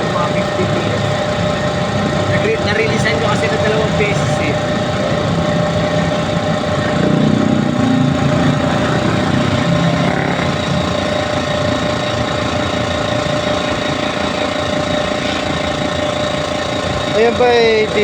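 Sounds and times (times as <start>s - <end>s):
air compressor running: 0.0s - 18.0s.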